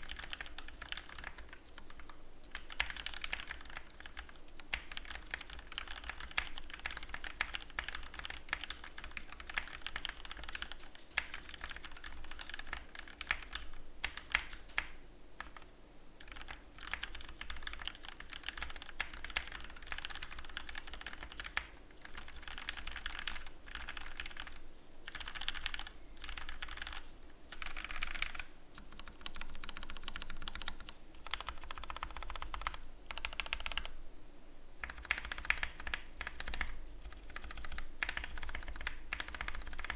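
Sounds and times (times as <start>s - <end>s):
mechanical keyboard typing: 0.0s - 15.6s, 16.2s - 34.0s, 34.8s - 39.9s.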